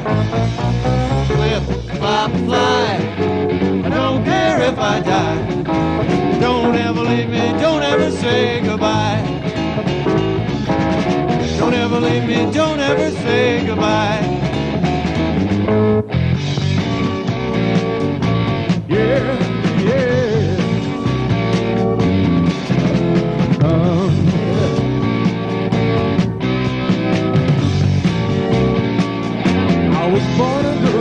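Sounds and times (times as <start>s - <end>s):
rock band music: 0.0s - 31.0s.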